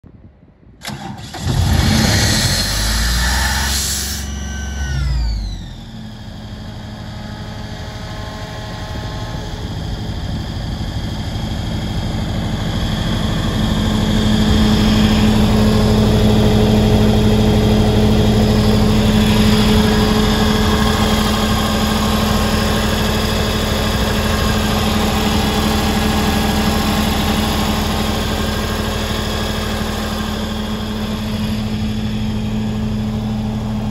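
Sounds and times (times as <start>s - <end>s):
diesel compressor engine running: 0.8s - 33.9s.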